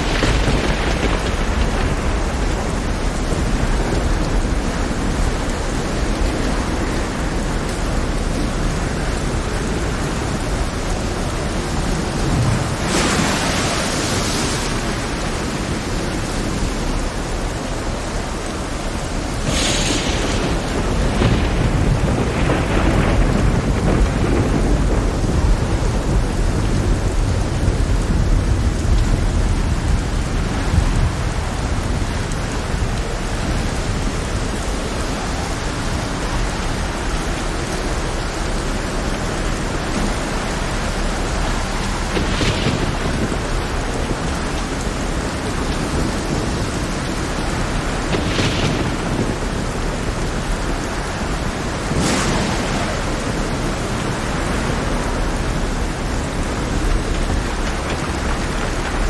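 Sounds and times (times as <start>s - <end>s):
heavy rain: 0.0s - 59.0s
thunder rumble: 0.0s - 59.0s.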